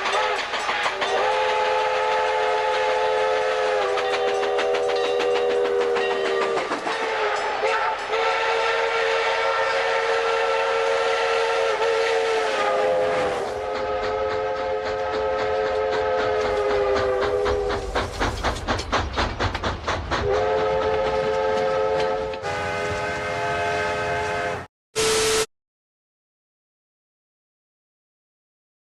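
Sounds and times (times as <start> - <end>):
steam locomotive whistle: 0.0 - 18.1, 20.2 - 25.5
rhythmic beats of moving train: 0.0 - 25.4.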